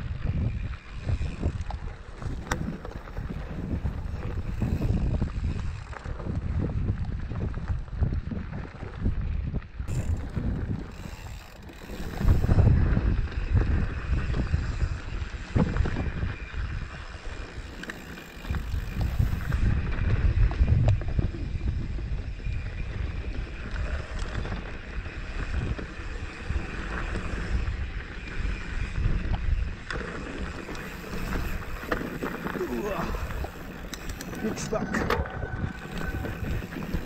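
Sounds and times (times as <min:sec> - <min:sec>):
bike knocking and rattling: 0:00.0 - 0:37.0
wind buffeting microphone: 0:00.0 - 0:37.0.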